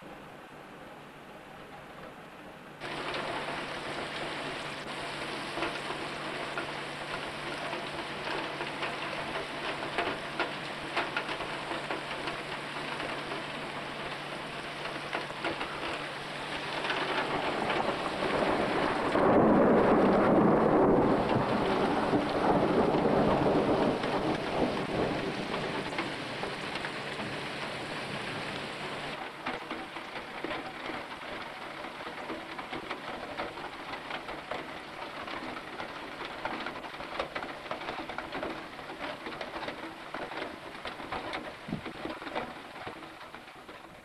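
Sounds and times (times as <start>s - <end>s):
heavy rain pouring on paving: 1.9s - 44.0s
sharp raindrops ticking: 2.8s - 44.0s.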